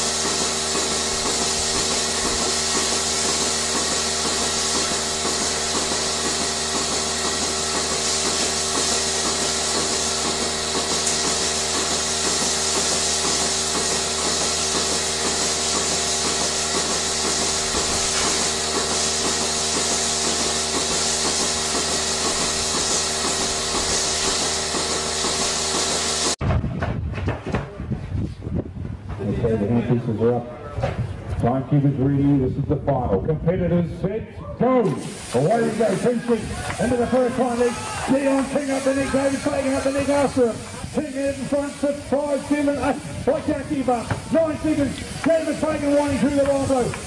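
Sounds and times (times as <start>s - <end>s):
electric sheep shears running: 0.0s - 26.4s, 35.3s - 47.0s.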